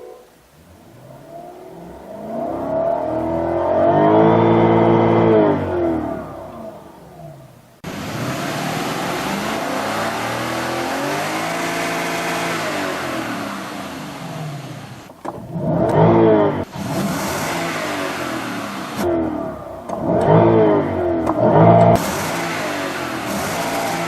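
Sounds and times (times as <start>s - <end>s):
car engine exhaust revving: 0.0s - 24.0s.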